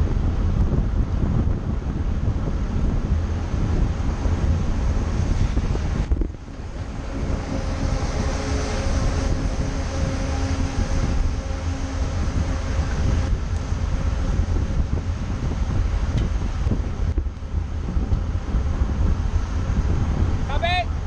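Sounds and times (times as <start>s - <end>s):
bike tyres hissing on wet road: 0.0s - 20.5s
wind buffeting microphone: 0.0s - 21.0s.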